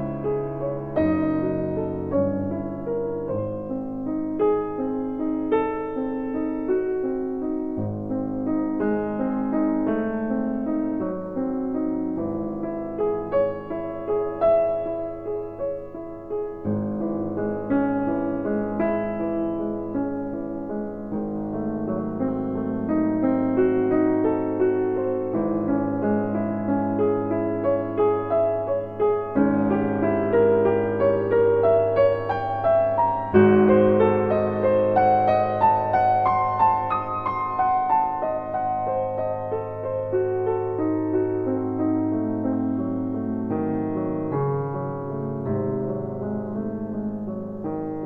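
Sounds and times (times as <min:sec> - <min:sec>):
gentle piano music: 0:00.0 - 0:48.0.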